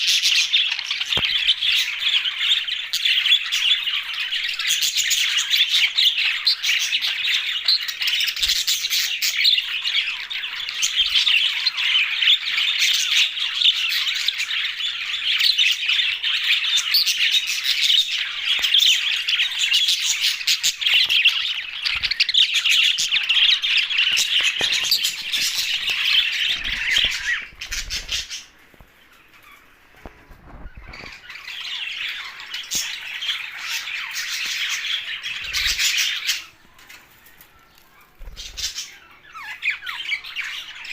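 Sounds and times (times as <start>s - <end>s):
budgerigars chattering and chirping: 0.0s - 29.7s, 30.4s - 37.1s, 37.7s - 40.9s.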